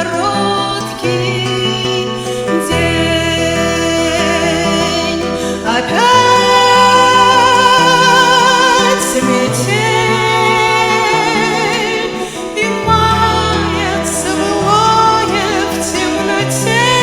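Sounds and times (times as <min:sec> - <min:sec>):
chordal accompaniment: 0:00.0 - 0:17.0
person singing with vibrato: 0:00.0 - 0:17.0.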